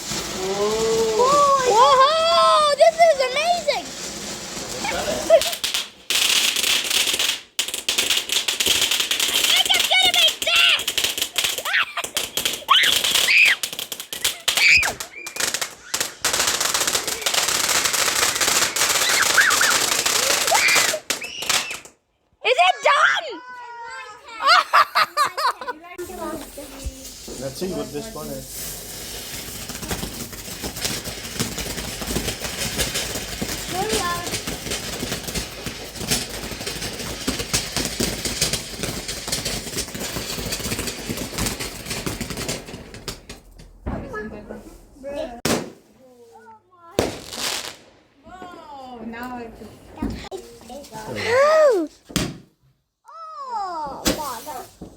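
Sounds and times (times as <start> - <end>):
firework crackling and popping: 0.0 - 22.0, 24.6 - 52.5, 54.0 - 54.9.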